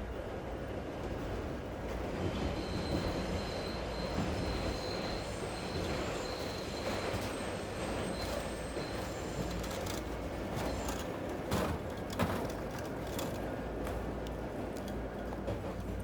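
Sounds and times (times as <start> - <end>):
train rumbling past: 0.0 - 16.0
wheels squealing on rails: 1.9 - 16.0.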